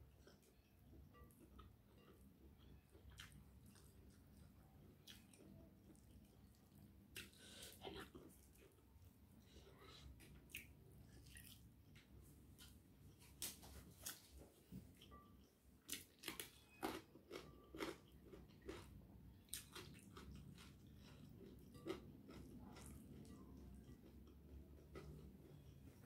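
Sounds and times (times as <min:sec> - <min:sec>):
chewing crispy food: 0:00.1 - 0:13.4, 0:14.0 - 0:26.0.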